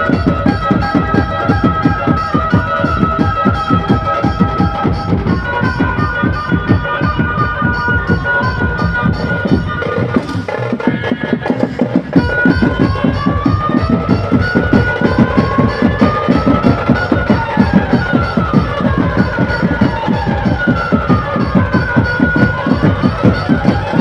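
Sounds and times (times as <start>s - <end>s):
fast drum beat: 0.0s - 24.0s.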